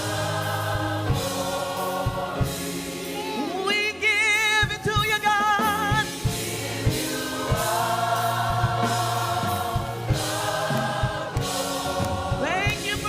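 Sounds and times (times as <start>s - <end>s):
choir singing in harmony: 0.0s - 13.0s
instrumental accompaniment with bass: 0.0s - 13.0s.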